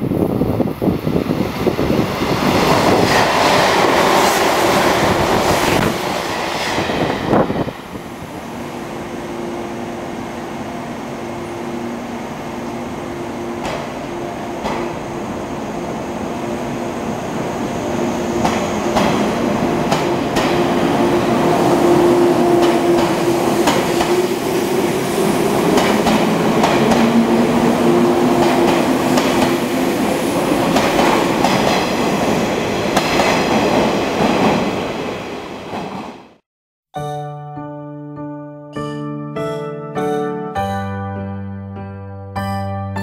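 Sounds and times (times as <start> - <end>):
train hum: 0.0 - 36.4.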